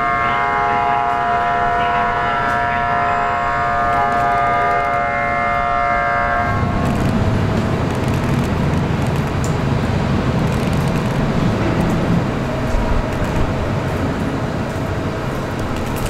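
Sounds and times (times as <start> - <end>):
subway train squealing: 0.0 - 16.0
train low rumble: 0.0 - 16.0.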